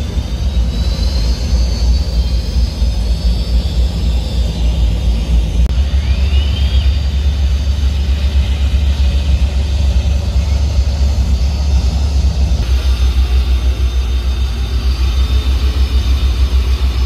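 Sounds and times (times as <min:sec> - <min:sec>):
powerboat engines idling: 0:00.0 - 0:17.0.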